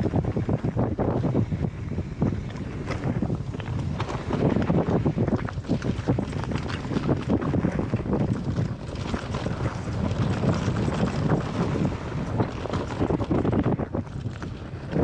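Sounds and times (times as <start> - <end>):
wind buffeting microphone: 0.0 - 15.0
bike tyres crunching over gravel: 2.8 - 15.0
bike rattling and knocking: 2.9 - 15.0.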